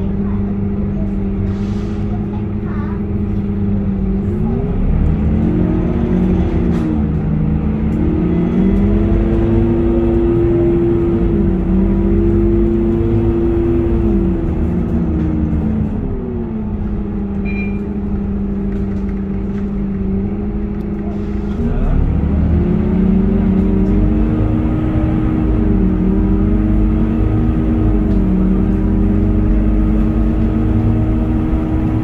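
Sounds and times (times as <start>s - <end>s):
bus diesel engine from inside: 0.0s - 32.0s.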